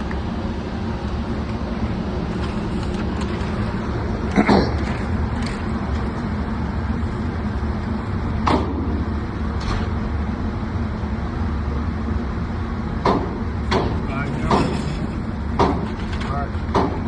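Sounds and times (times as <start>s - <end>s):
ventilation drone: 0.0s - 17.0s.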